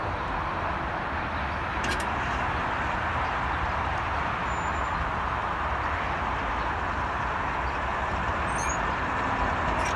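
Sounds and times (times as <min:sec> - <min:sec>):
train rolling along track: 0:00.0 - 0:09.9.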